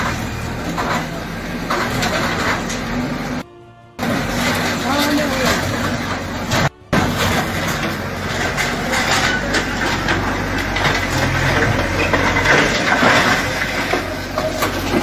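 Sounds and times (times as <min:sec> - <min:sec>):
breaking brick and metal sheets: 0:00.0 - 0:03.4, 0:04.0 - 0:15.0
diesel engine under load: 0:00.0 - 0:15.0.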